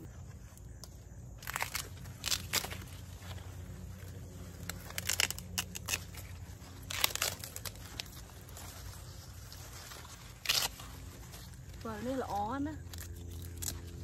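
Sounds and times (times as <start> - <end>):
plant leaves rustling and crackling: 0.0 - 14.0.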